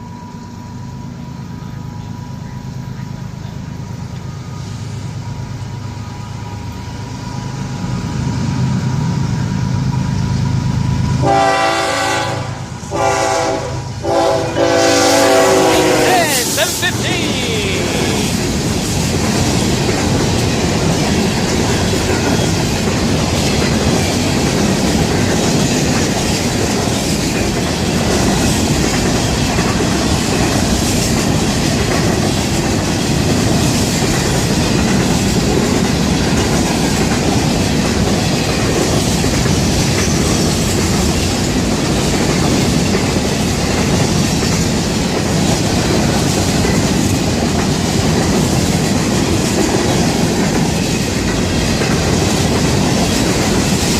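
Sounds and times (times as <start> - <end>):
freight train wheels clattering on rails: 2.8 - 53.9.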